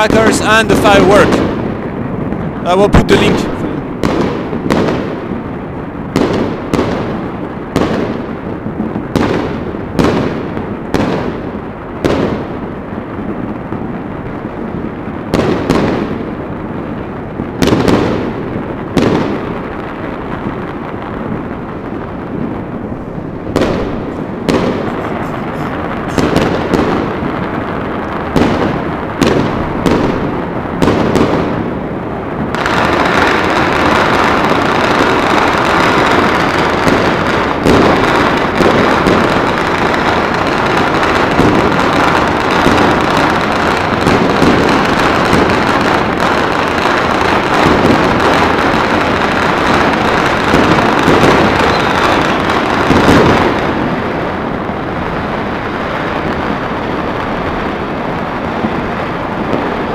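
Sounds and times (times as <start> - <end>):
dense firecracker crackling: 0.0 - 59.9
firework bangs with echoes: 0.0 - 59.9.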